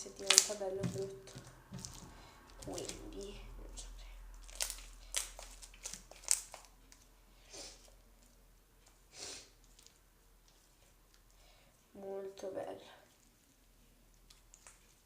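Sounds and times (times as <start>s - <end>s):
slime crackling as kneaded: 0.0s - 11.4s, 13.0s - 15.0s.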